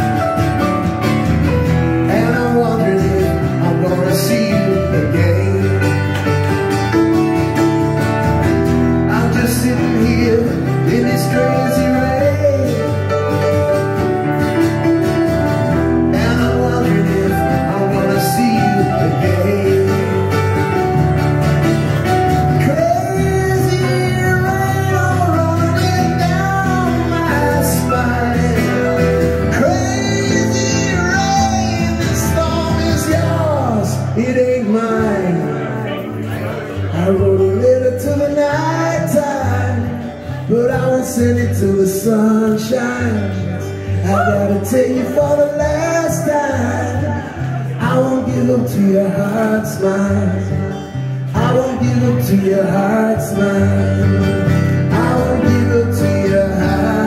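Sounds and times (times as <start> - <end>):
electric keyboard: 0.0 - 57.0
man singing: 0.0 - 57.0
strummed acoustic guitar: 0.0 - 57.0.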